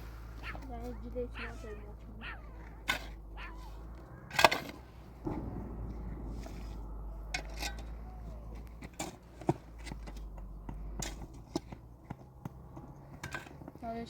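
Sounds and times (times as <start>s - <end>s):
low rumble: 0.0s - 13.8s.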